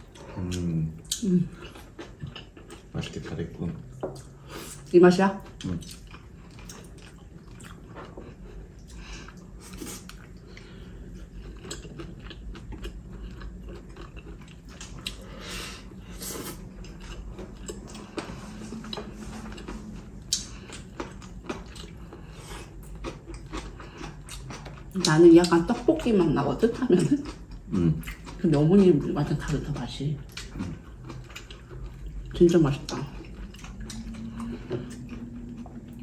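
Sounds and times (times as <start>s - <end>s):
chewing and mouth clicks: 0.0s - 36.0s.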